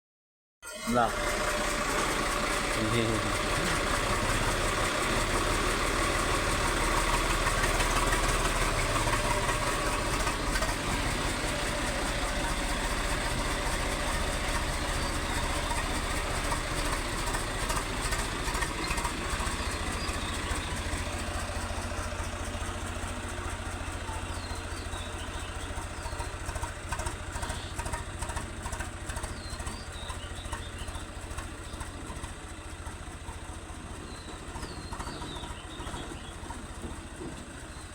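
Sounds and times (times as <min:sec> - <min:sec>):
tractor diesel engine running: 0:00.7 - 0:37.9.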